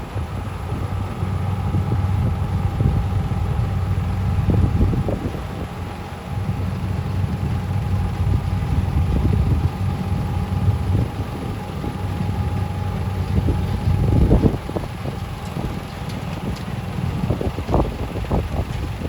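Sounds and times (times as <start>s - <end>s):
snow-removal machinery running: 0.0s - 19.0s
wind buffeting microphone: 0.0s - 19.0s.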